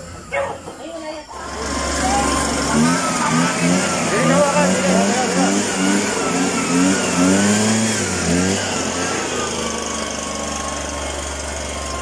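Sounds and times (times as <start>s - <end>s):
power sprayer engine running: 0.0s - 12.0s.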